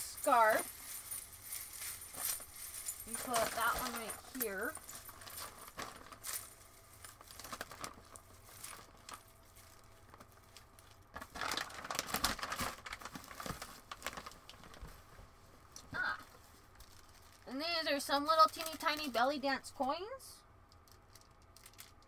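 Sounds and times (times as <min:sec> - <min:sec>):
plastic bags crinkling: 0:00.0 - 0:15.2, 0:16.2 - 0:19.4, 0:20.7 - 0:22.0.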